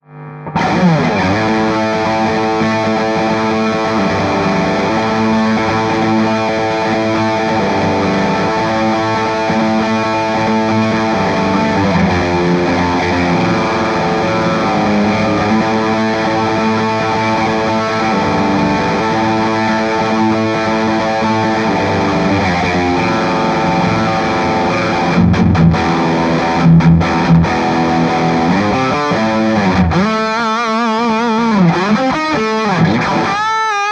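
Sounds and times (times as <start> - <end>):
overdriven electric guitar: 0.0 - 33.9
short stabbed guitar notes: 0.3 - 33.9.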